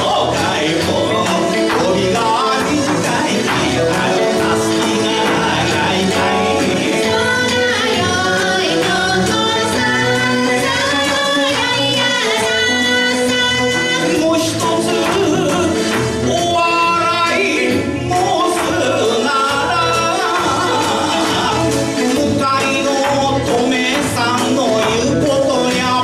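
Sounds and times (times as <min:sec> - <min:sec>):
man singing into a microphone: 0:00.0 - 0:07.5, 0:12.2 - 0:26.0
steady drum beat: 0:00.0 - 0:26.0.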